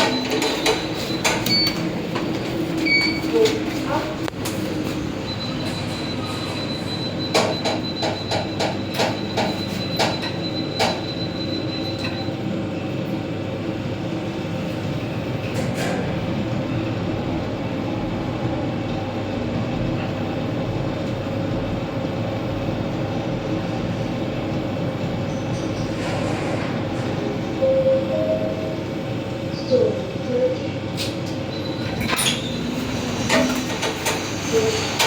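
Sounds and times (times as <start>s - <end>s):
lift rumbling hum: 0.0s - 35.0s.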